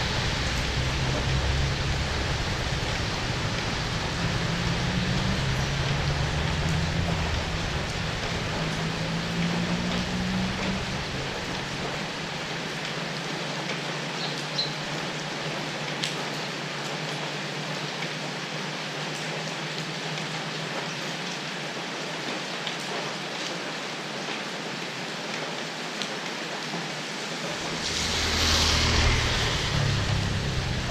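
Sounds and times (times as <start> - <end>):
rain falling: 0.0 - 30.9.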